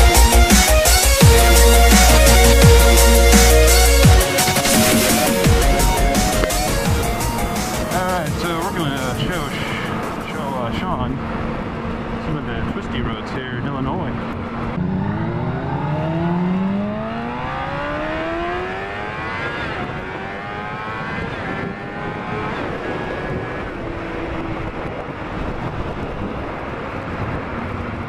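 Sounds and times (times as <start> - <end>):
motorcycle engine accelerating: 0.0 - 28.0
wind rush: 4.0 - 28.0.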